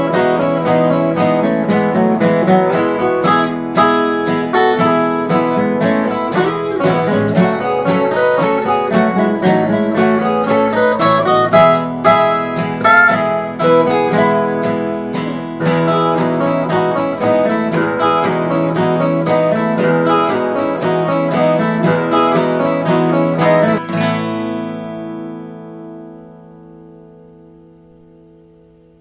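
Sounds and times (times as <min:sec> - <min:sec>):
acoustic guitar picking: 0:00.0 - 0:29.0.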